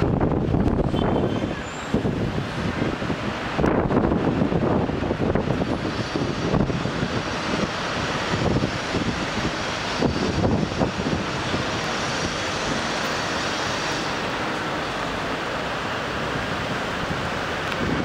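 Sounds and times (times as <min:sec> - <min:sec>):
distant city traffic hum: 0:00.0 - 0:18.0
wind buffeting microphone: 0:00.0 - 0:18.0.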